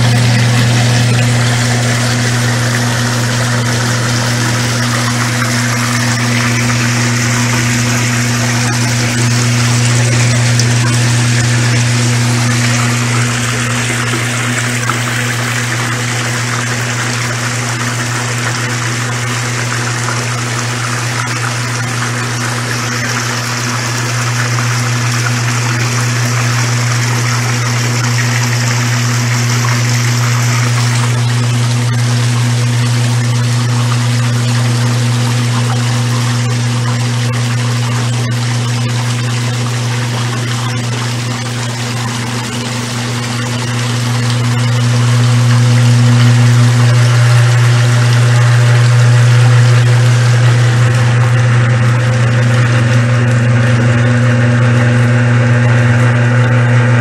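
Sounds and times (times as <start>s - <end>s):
rushing water: 0.0s - 55.7s
washing machine motor hum: 0.0s - 57.0s.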